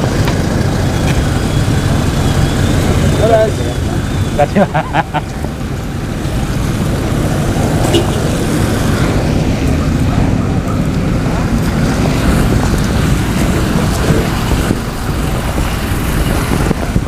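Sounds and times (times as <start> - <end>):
car engines and tyres rumbling: 0.0 - 17.0
wind buffeting microphone: 0.0 - 17.0.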